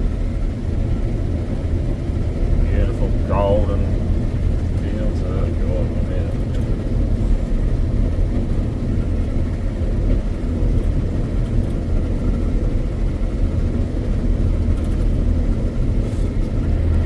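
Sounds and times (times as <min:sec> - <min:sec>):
combine harvester rumbling: 0:00.0 - 0:17.0.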